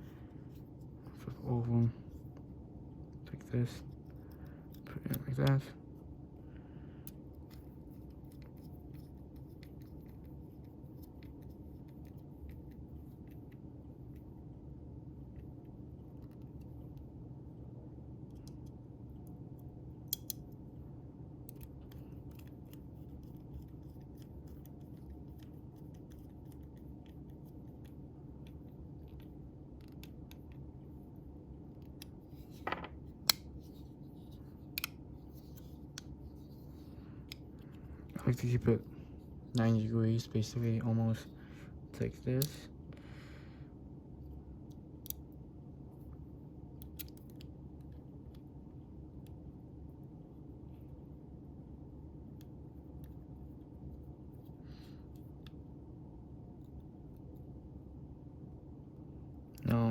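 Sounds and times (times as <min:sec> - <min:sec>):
low background noise: 0:00.0 - 0:59.9.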